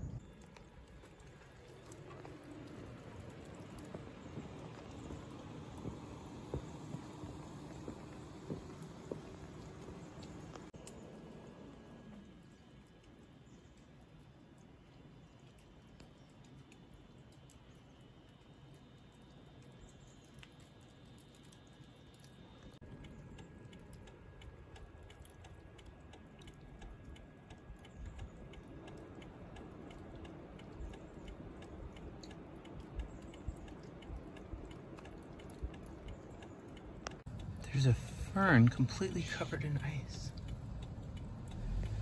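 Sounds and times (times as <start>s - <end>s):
water dripping from icicles: 0.0s - 42.0s.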